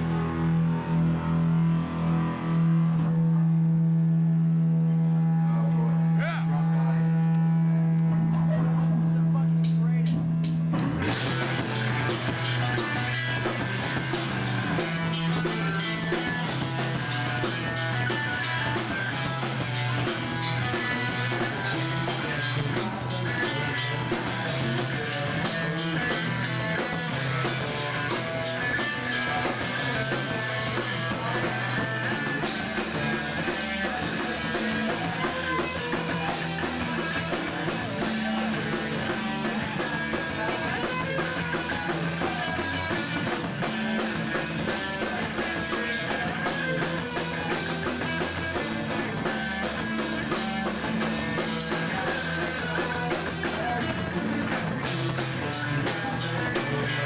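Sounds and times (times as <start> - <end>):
bass guitar: 0.0 - 57.0
distorted electric guitars: 0.0 - 57.0
drum kit: 9.4 - 57.0.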